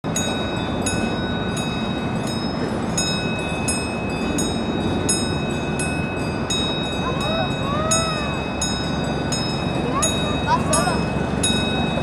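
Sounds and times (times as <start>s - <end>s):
mall hubbub: 0.1s - 12.0s
train bell ringing: 0.1s - 12.0s.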